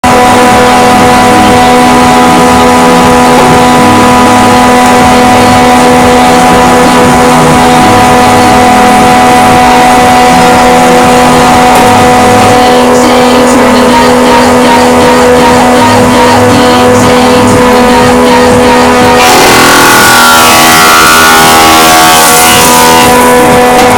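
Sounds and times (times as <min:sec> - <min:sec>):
woodworking machine motor humming: 0:00.0 - 0:23.9.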